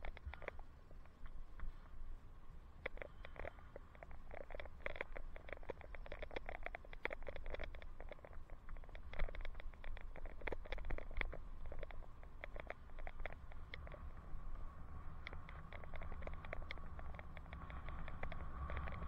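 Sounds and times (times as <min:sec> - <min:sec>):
wind rumble on camera: 0:00.0 - 0:19.0
bicycle clicking and rattling: 0:03.0 - 0:19.0.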